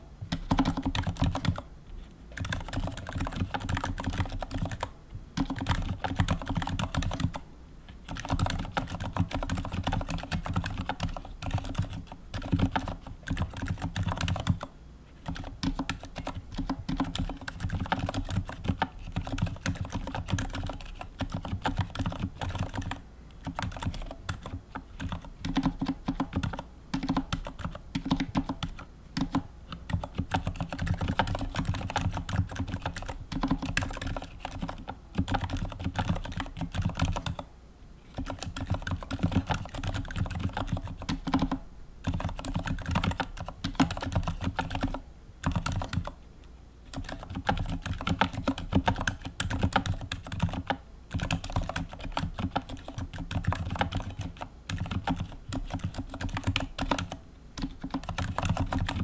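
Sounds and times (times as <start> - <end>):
fast typing on mechanical keyboard: 0.3 - 1.6, 2.4 - 7.4, 8.0 - 37.4, 38.1 - 46.2, 46.9 - 59.0.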